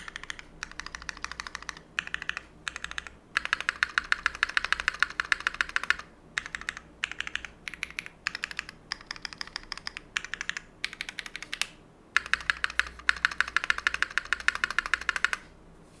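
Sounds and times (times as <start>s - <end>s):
mechanical keyboard typing: 0.0s - 15.4s.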